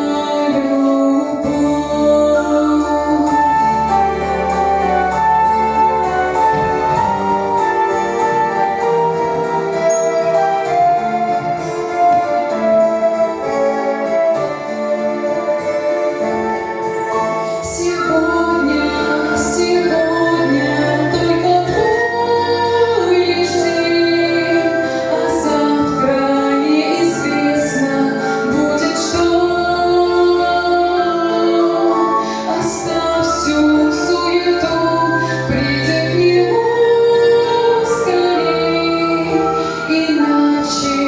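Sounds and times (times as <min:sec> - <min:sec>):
woman singing: 0:00.0 - 0:09.5, 0:10.3 - 0:41.0
instrumental accompaniment: 0:00.0 - 0:41.0.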